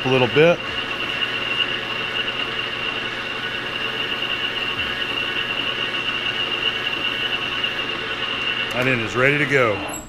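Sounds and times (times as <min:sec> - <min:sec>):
lathe running with high whine: 0:00.0 - 0:10.0
pad polishing spinning shaft: 0:00.0 - 0:10.0.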